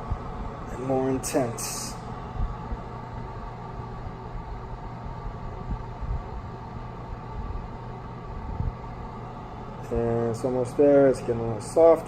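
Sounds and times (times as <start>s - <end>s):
coffee brewer hissing and humming: 0.0s - 12.0s.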